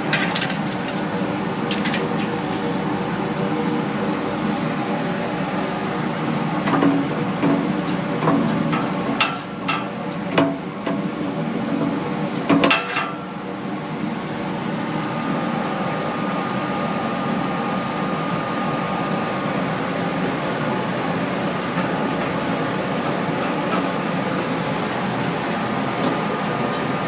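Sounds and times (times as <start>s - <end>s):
machinery humming: 0.0s - 12.6s, 13.2s - 27.0s.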